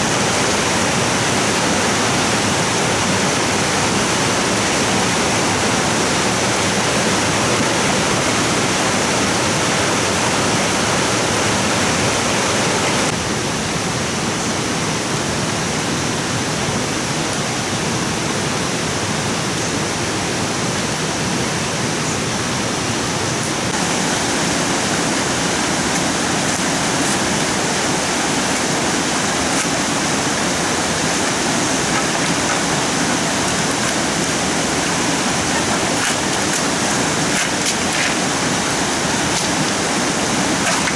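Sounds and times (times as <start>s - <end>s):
rushing water: 0.0s - 13.4s, 14.8s - 40.9s.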